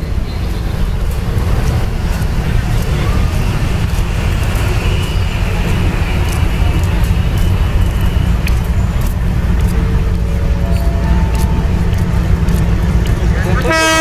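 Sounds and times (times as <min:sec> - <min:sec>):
diesel locomotive rumble: 0:00.0 - 0:14.0.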